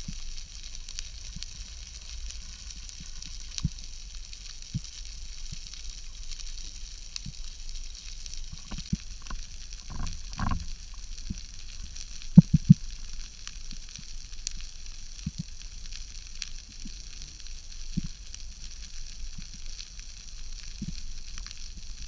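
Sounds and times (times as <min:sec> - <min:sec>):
underwater crackling hiss: 0:00.0 - 0:22.0.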